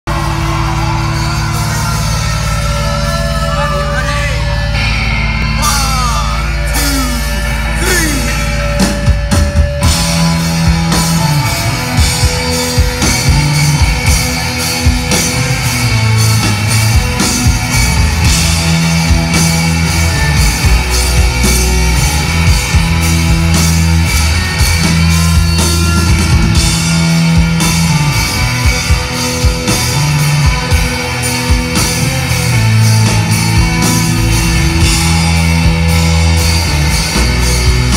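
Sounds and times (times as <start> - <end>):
drums: 0.0 - 37.9
live rock band playing: 0.1 - 37.9.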